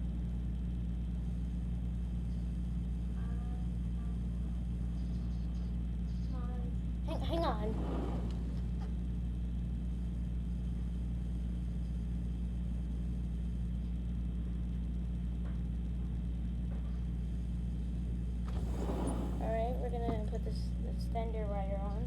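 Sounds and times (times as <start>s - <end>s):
low rumble and hum: 0.0s - 22.0s.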